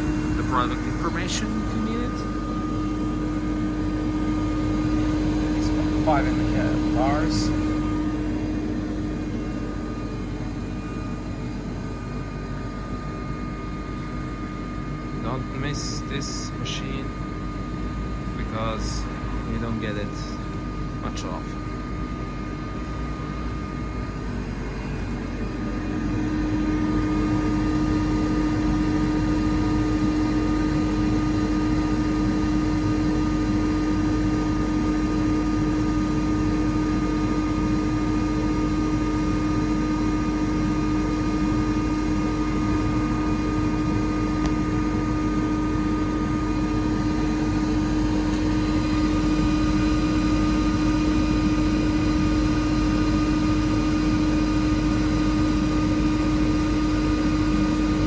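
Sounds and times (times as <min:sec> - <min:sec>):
air compressor humming: 0:00.0 - 0:58.0.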